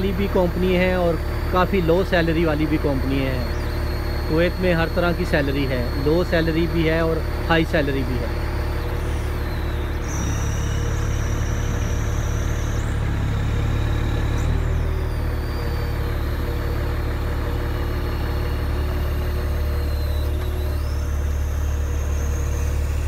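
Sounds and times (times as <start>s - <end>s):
high whine shifting pitch: 0.0s - 23.0s
truck engine deep rumble: 0.0s - 23.0s.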